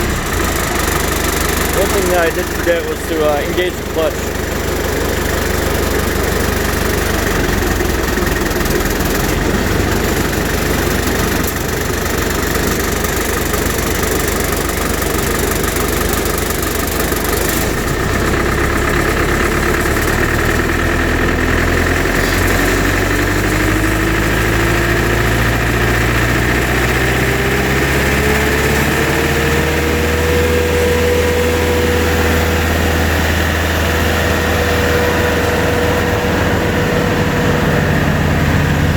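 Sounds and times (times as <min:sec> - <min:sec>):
diesel engine running: 0:00.0 - 0:38.9
wood chipper spinning up: 0:00.0 - 0:38.9.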